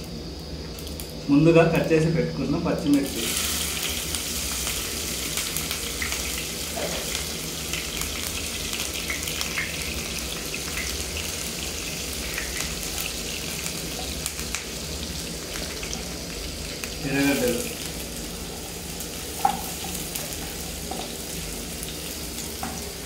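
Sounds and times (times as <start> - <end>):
chillies sizzling in hot oil: 0.0 - 23.0.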